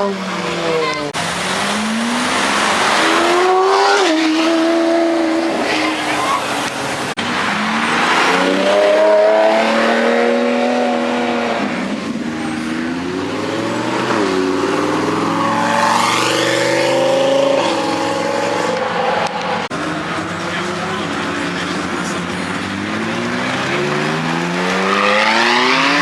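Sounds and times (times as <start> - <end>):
sports car engines revving: 0.0 - 26.0.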